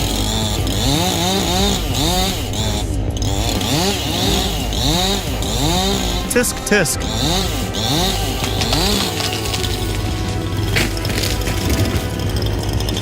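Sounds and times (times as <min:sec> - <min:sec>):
chainsaw engine revving: 0:00.0 - 0:13.0
steady high whine: 0:00.0 - 0:13.0.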